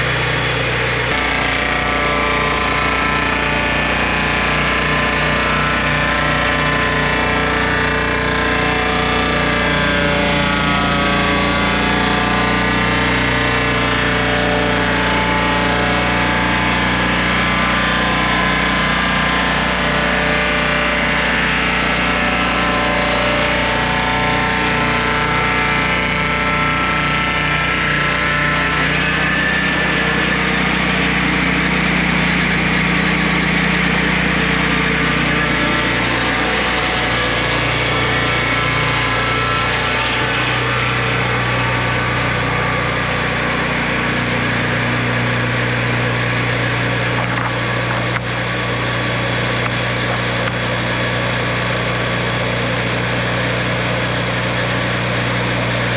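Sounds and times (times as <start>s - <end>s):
sawmill engine droning: 0.0s - 55.9s.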